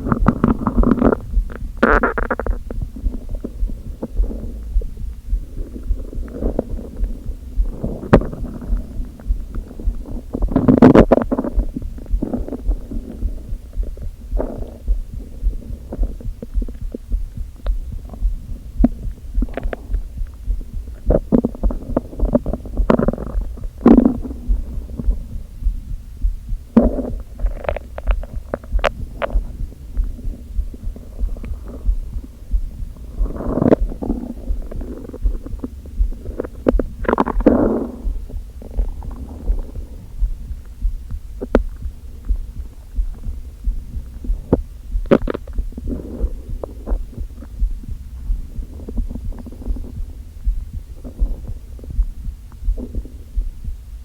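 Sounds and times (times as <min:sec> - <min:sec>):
low pulsing: 0:00.0 - 0:54.0
stomach gurgling and rumbling: 0:00.0 - 0:54.0.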